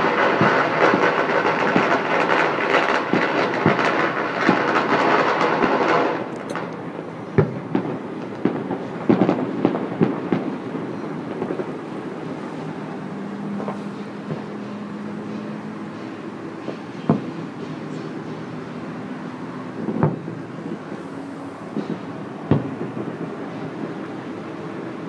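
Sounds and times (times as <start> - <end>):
firecrackers crackling: 0.0 - 25.0
firework bangs: 0.0 - 25.0.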